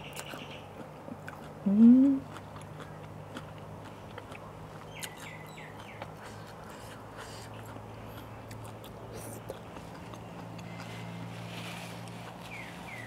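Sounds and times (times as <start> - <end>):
quiet chewing: 0.0 - 13.0
steady low hum: 0.0 - 13.0.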